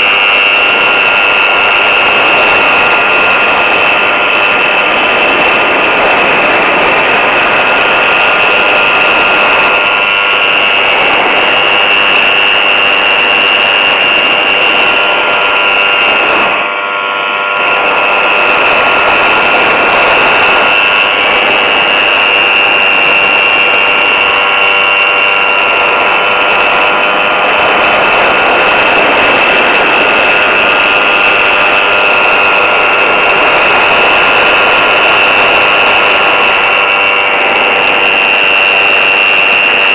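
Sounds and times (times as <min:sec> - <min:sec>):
buzzing aircraft engine drone: 0:00.0 - 0:39.9
rushing wind: 0:00.0 - 0:39.9.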